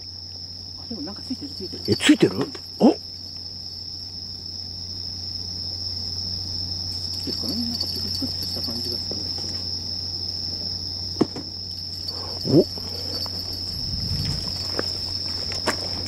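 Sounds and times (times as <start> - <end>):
night insects trilling: 0.0 - 16.0
steady low hum: 0.0 - 16.0.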